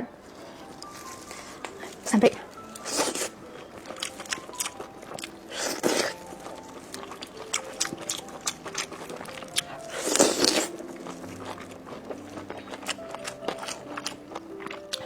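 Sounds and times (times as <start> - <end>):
chewing crunchy food: 0.2 - 15.0.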